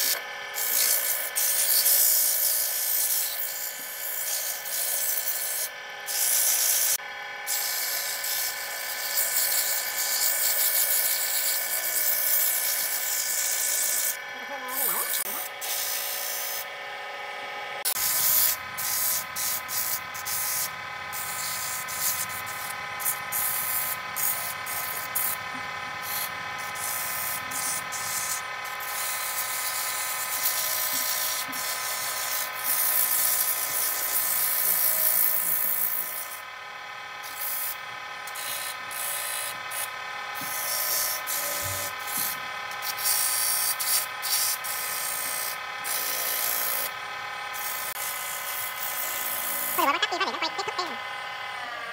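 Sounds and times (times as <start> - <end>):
sandpaper scratching spinning wood: 0.0 - 16.7, 17.8 - 36.5, 37.2 - 51.0
lathe motor whine: 0.0 - 51.9.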